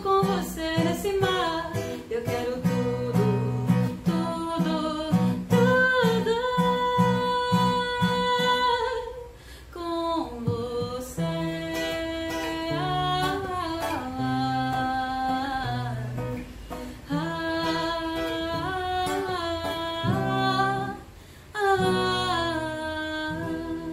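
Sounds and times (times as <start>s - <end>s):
plucked acoustic guitar: 0.0s - 9.2s, 10.3s - 23.9s
person singing: 0.0s - 16.4s, 17.0s - 23.9s.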